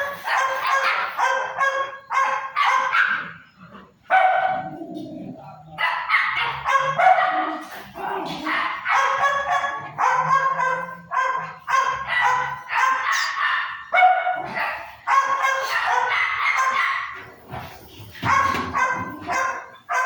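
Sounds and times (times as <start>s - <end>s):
dog barking and yelping: 0.0s - 20.0s.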